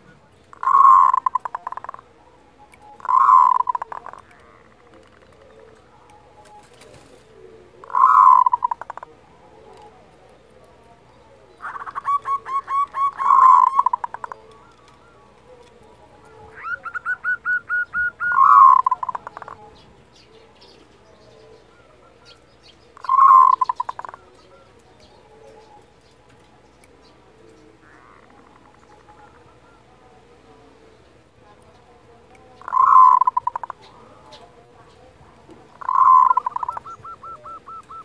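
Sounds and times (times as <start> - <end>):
dove calling: 0.0 - 38.0.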